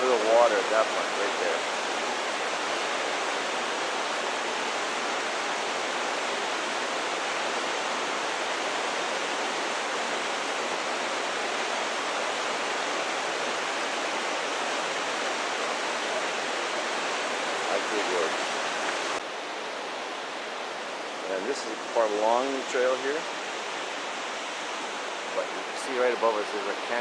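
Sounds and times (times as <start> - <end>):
roaring river and waterfall: 0.0 - 27.0.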